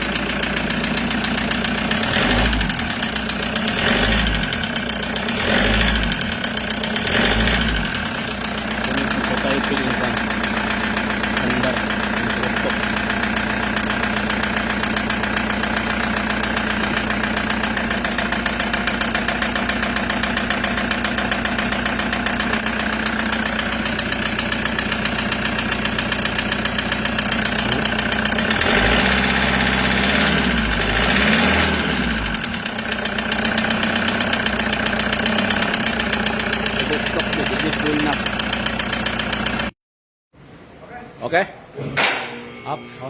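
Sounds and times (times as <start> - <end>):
diesel engine idling with knock: 0.0 - 39.8.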